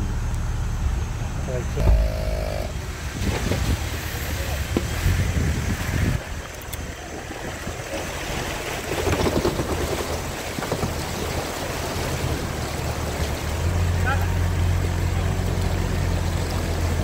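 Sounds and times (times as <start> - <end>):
water rushing and splashing: 1.7 - 17.0.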